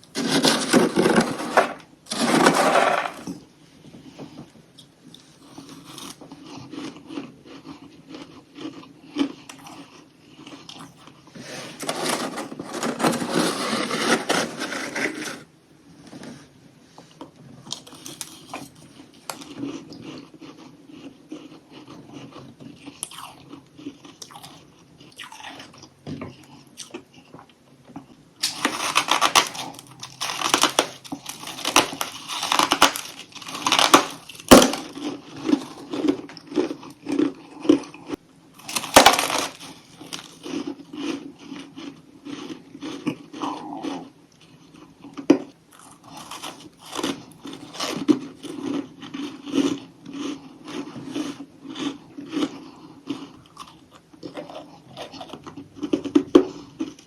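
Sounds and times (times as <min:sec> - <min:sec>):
person chewing crunchy frost: 0:00.0 - 0:03.4, 0:05.0 - 0:15.5, 0:17.5 - 0:57.0.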